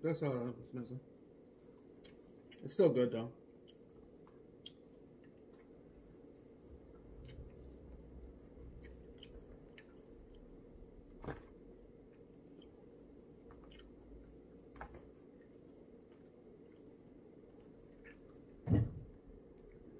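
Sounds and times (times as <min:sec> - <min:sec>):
person chewing food: 0:01.6 - 0:02.7, 0:03.5 - 0:18.6.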